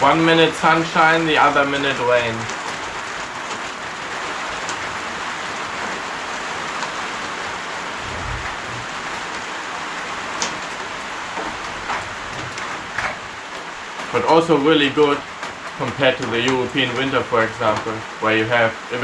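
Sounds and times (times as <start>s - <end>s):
rain falling: 0.0s - 19.0s
raindrop clicks: 0.0s - 19.0s.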